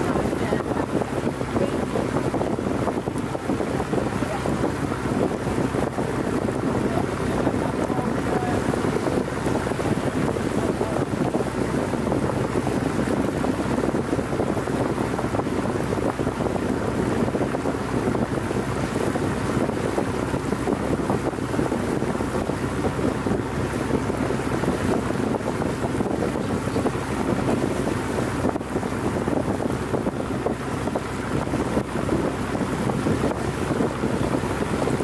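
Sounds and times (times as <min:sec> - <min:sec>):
boat engine droning: 0:00.0 - 0:35.0
wind on microphone: 0:00.0 - 0:35.0.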